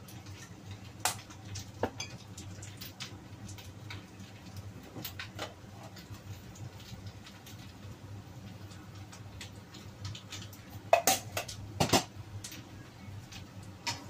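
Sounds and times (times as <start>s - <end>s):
noodles crackling in a wok: 0.0s - 14.0s.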